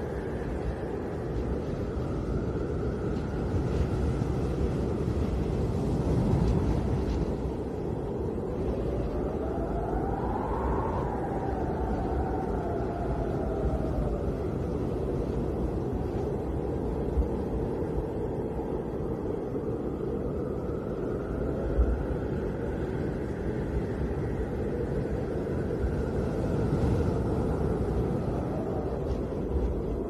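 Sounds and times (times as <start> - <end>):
low wind gusts: 0.0 - 30.0
snowstorm wind howling: 0.0 - 30.0.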